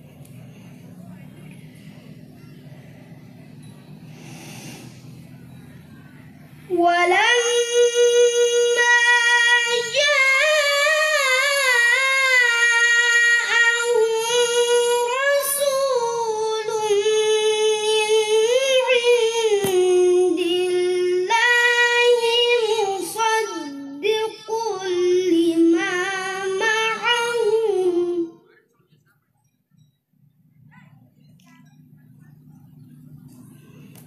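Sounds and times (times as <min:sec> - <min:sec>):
boy reciting melodically: 0:00.0 - 0:28.6.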